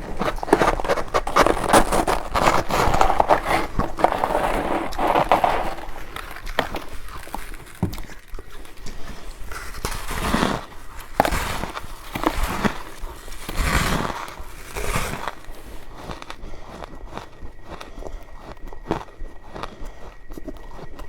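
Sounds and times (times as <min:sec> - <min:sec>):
chewing and crunching ice: 0:00.0 - 0:21.0.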